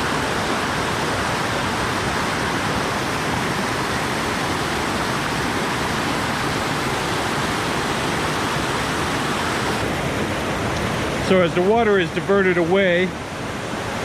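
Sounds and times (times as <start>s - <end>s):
water rushing down a stream: 0.0s - 14.0s.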